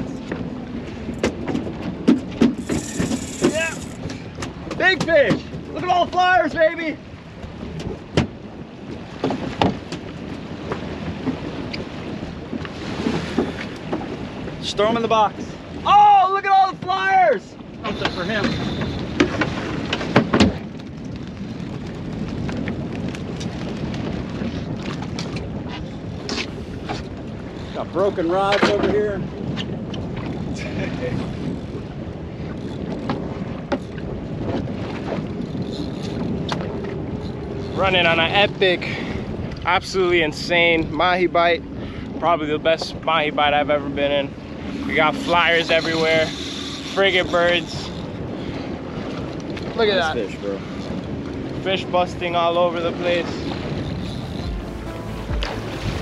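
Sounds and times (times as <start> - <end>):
water washing against hull: 0.0 - 56.0
wind buffeting microphone: 0.0 - 56.0.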